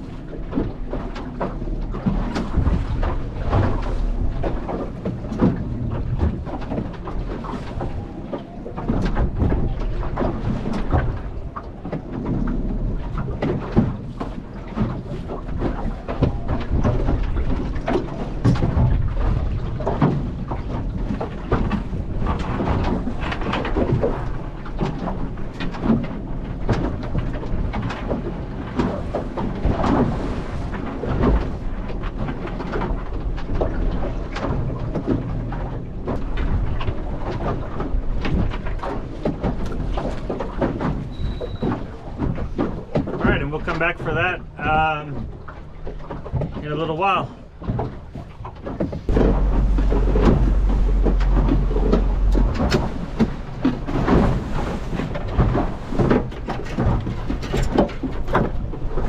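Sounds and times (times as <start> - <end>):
wind buffeting microphone: 0.0 - 46.7, 47.3 - 59.0
choppy water splashing: 0.0 - 59.0
knocks on boat: 0.0 - 59.0.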